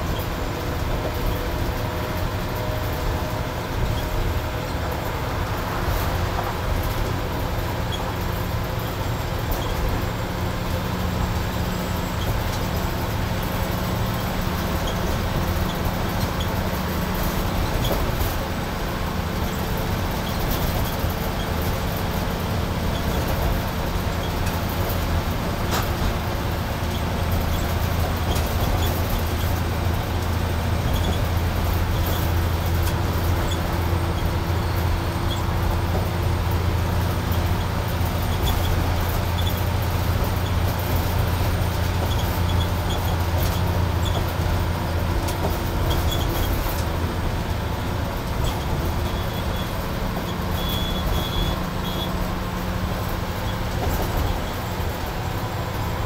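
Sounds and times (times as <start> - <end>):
bus engine drone: 0.0 - 56.0
tyre and road noise: 0.0 - 56.0.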